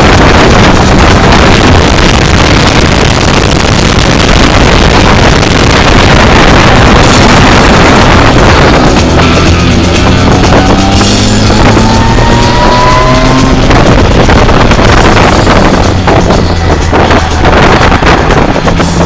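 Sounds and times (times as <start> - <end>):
distorted car engine roar: 0.0 - 19.0.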